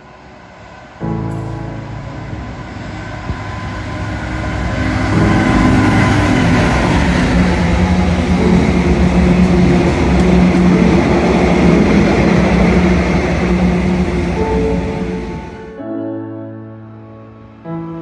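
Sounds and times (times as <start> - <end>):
train wheels rumbling on rail: 0.0 - 15.7
diesel locomotive passing: 0.0 - 15.8.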